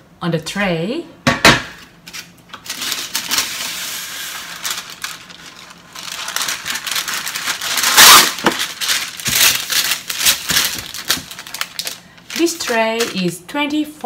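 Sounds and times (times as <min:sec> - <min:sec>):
baking paper rustling and crinkling: 0:01.8 - 0:14.0
paper crackle: 0:02.0 - 0:13.4.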